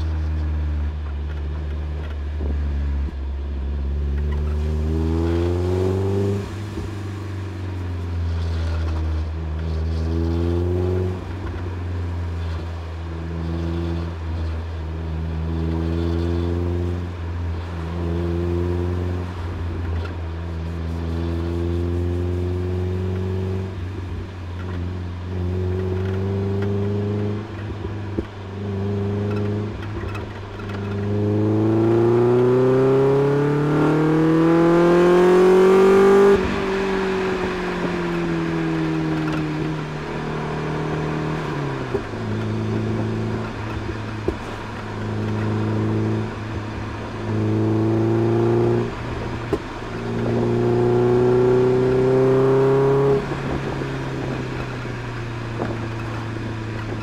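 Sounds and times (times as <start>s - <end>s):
car engine and exhaust: 0.0s - 57.0s.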